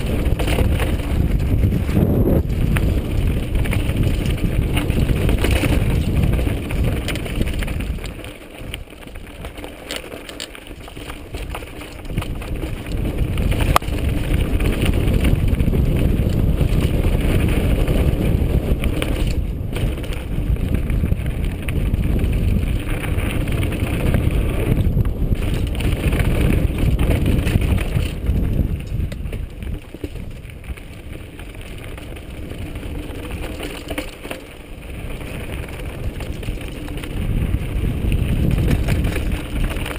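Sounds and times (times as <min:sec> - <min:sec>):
wind on microphone: 0:00.0 - 0:09.6, 0:10.8 - 0:39.9
bike rattling: 0:00.0 - 0:39.9
tyres rolling over loose stones: 0:00.0 - 0:39.9.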